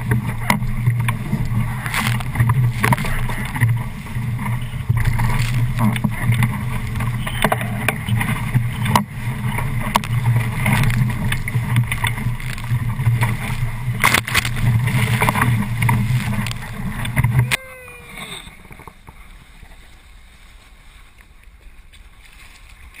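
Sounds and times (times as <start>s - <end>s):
water rushing and spraying: 0.0s - 18.8s
water gurgle: 0.0s - 20.2s.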